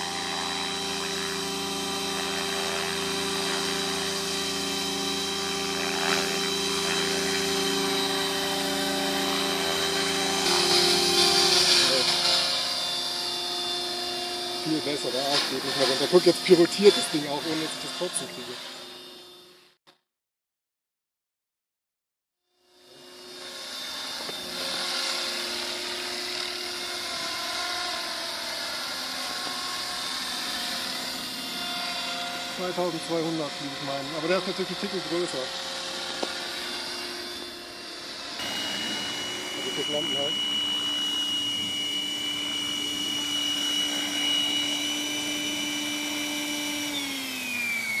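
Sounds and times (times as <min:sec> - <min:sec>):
rushing rotor noise: 0:00.0 - 0:19.4, 0:23.0 - 0:48.0
rc helicopter motor whine: 0:00.0 - 0:19.8, 0:22.5 - 0:48.0.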